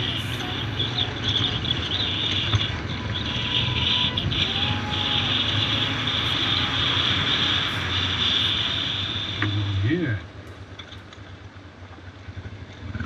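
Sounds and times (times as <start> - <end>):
motorcycle engine drone: 0.0 - 13.0
road and wind noise: 0.0 - 13.0.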